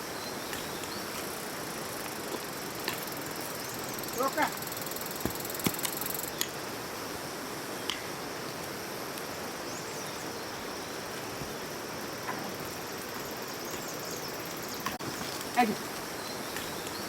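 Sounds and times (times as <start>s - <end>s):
outdoor field hiss: 0.0s - 17.0s.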